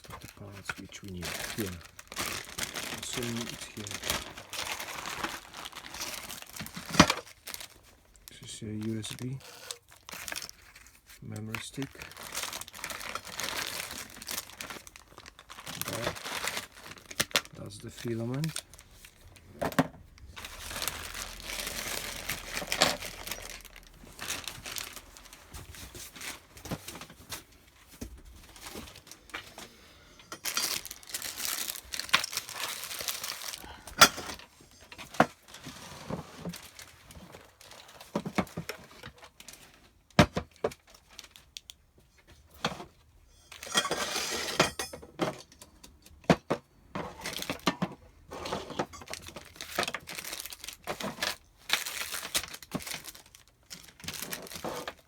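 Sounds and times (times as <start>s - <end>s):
plastic packaging crinkling: 0.0s - 41.8s, 47.1s - 55.0s.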